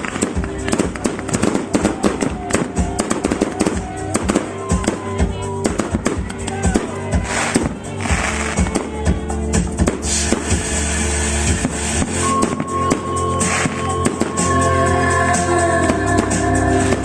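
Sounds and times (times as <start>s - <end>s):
fireworks whistles: 0.0s - 8.9s, 9.9s - 17.0s
fireworks bangs and crackles: 0.0s - 17.0s
music with steady bass: 0.0s - 17.0s.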